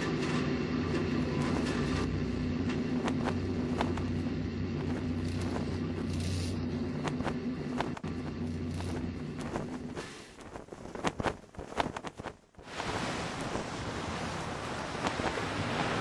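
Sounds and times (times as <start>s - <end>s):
low rumble with droning hum: 0.0s - 16.0s.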